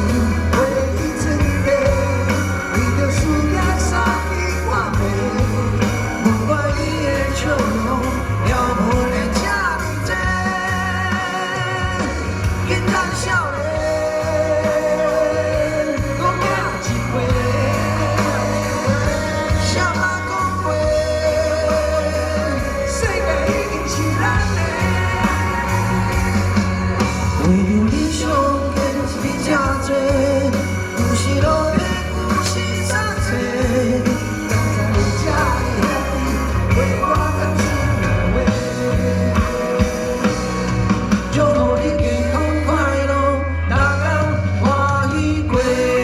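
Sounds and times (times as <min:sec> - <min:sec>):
live rock band playing: 0:00.0 - 0:46.0
person singing: 0:00.0 - 0:46.0.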